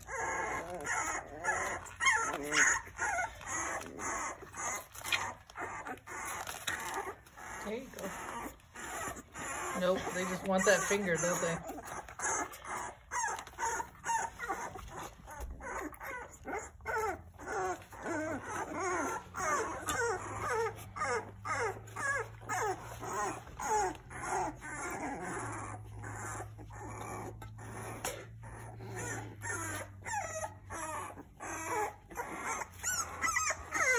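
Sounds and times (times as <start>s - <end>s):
puppies whimpering and squealing: 0.0s - 33.9s.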